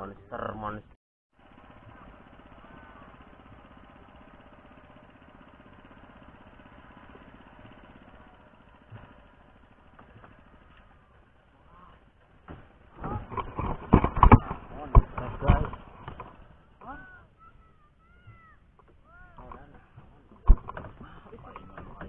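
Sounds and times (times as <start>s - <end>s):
small engine running: 1.4s - 22.0s.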